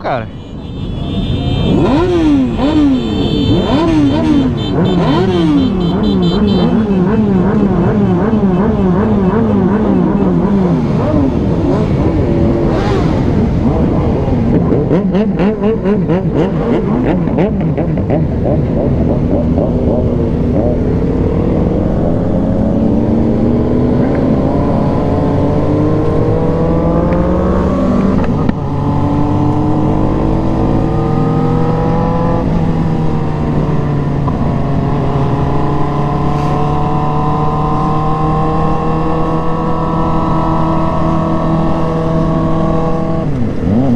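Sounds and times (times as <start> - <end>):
motorcycle engine accelerating: 0.7 - 43.9.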